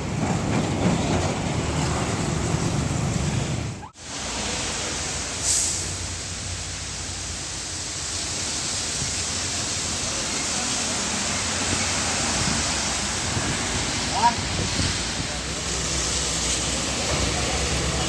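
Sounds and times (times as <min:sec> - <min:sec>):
road traffic rushing: 0:00.0 - 0:18.0.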